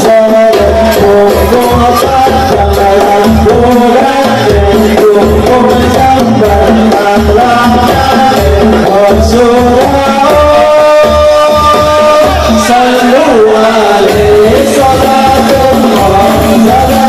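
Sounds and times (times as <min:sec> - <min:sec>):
frame drums in steady rhythm: 0:00.0 - 0:17.0
men singing: 0:00.0 - 0:17.0.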